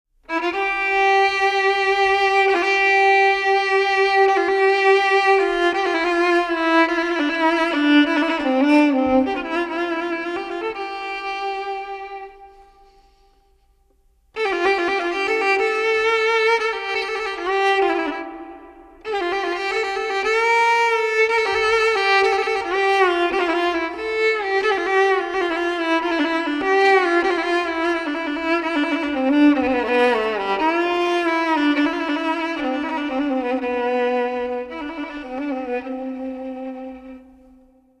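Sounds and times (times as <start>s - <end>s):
solo violin music: 0.2s - 38.0s.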